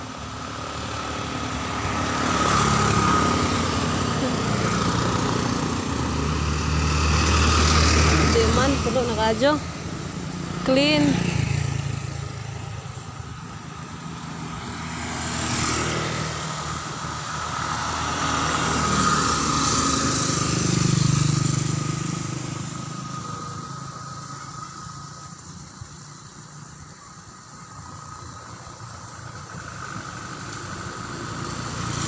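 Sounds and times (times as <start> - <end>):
vehicle noise: 0.0 - 32.0
motorcycle engine passing: 0.8 - 26.6.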